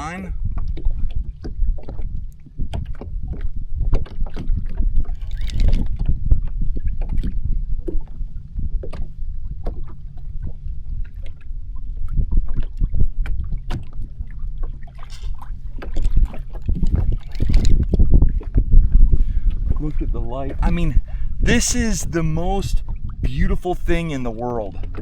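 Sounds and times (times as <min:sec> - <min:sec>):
water splashing against hull: 0:00.0 - 0:21.4.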